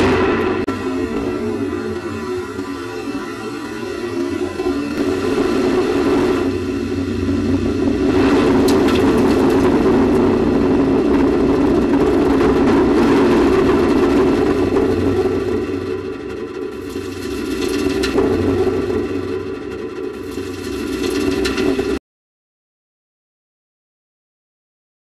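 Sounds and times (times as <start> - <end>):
rocket boosters rumbling: 0.0 - 22.0.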